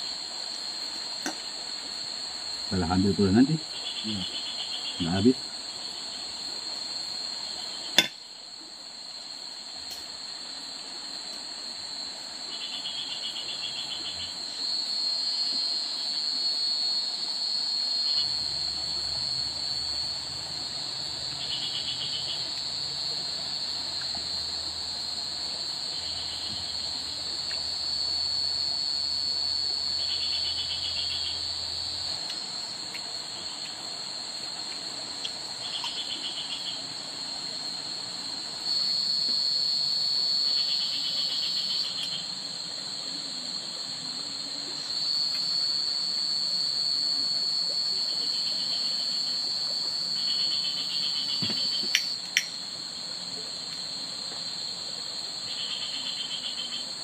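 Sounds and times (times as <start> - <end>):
insect chorus: 0.0 - 57.0
pulsing insect call: 0.0 - 57.0.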